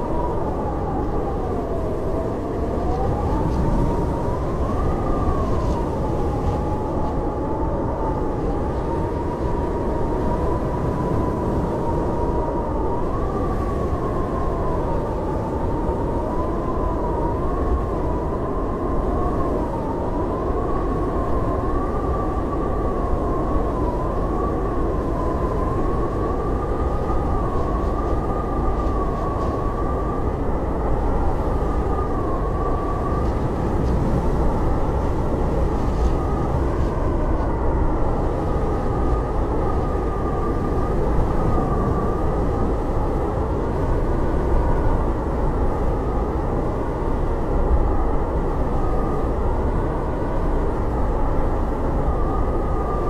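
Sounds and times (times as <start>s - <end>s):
blizzard wind howling: 0.0s - 53.0s.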